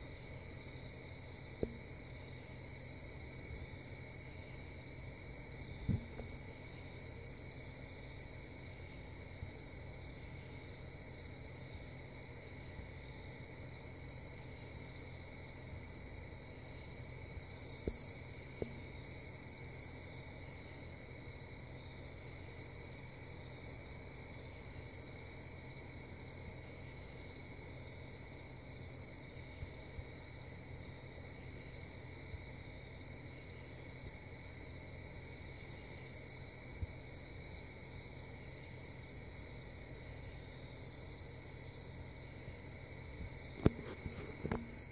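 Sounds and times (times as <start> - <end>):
crickets trilling: 0.0 - 44.9
rustle: 0.0 - 44.9.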